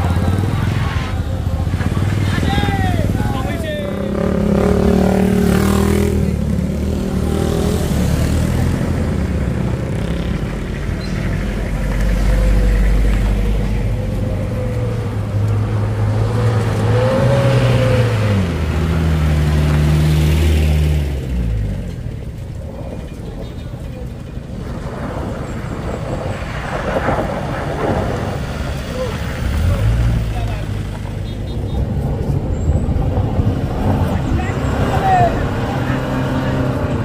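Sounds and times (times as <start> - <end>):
vehicle engine under load: 0.0 - 37.0.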